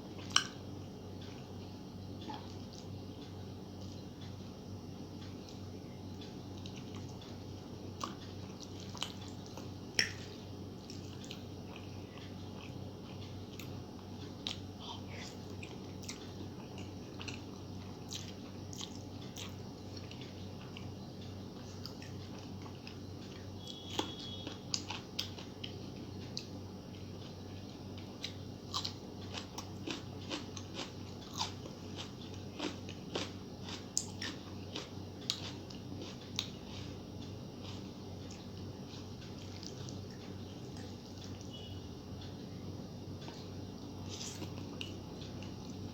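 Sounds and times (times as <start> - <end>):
person chewing food: 0.0 - 4.5, 5.1 - 42.4, 43.1 - 45.9.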